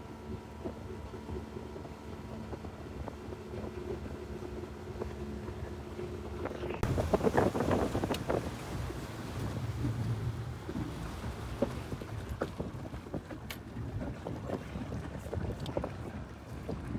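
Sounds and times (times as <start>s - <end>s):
motorboat engine running: 0.0s - 16.9s
wind buffeting microphone: 0.3s - 16.9s.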